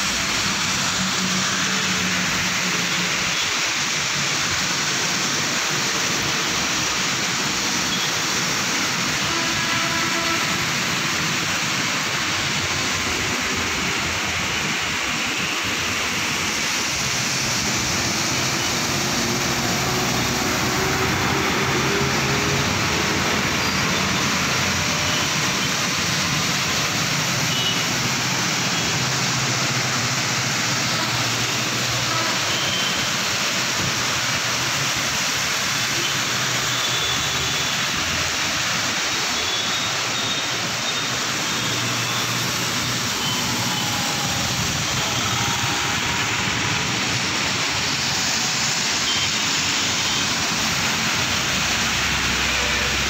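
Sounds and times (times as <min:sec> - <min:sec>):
heavy rain on road: 0:00.0 - 0:53.0
traffic through standing water: 0:00.0 - 0:53.0.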